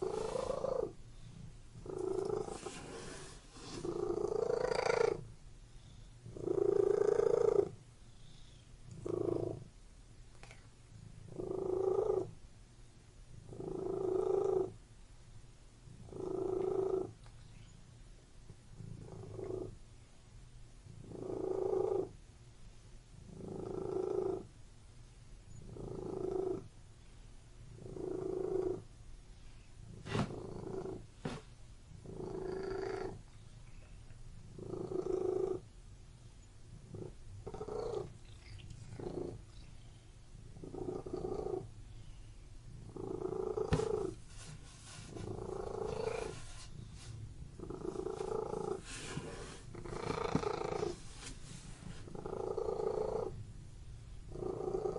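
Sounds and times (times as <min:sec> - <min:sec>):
cat purring: 0:00.0 - 0:09.7, 0:10.3 - 0:12.4, 0:13.3 - 0:14.8, 0:15.9 - 0:17.8, 0:18.7 - 0:19.8, 0:20.8 - 0:22.2, 0:23.2 - 0:24.5, 0:25.6 - 0:26.7, 0:27.7 - 0:35.7, 0:36.7 - 0:53.4, 0:54.2 - 0:54.9.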